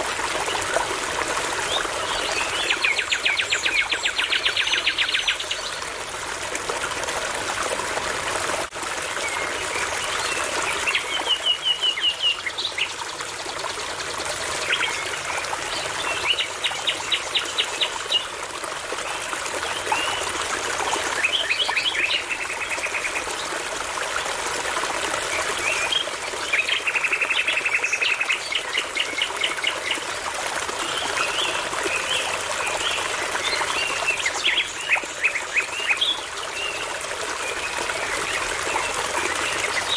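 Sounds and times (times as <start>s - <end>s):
babbling brook: 0.0s - 39.9s.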